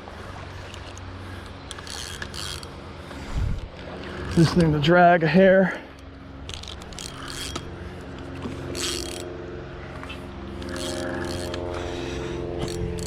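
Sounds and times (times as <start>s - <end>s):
fishing reel drag clicking: 0.5s - 4.7s, 5.9s - 9.3s, 10.0s - 13.0s.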